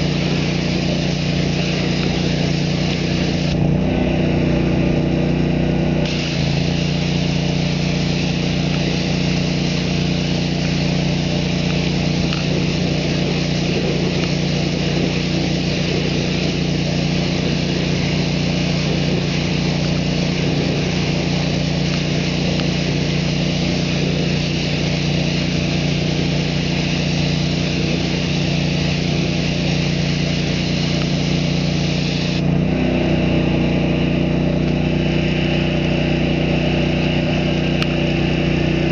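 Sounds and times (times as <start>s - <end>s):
water spray hissing: 0.0s - 5.2s, 6.0s - 32.4s
pressure washer engine drone: 0.0s - 38.9s.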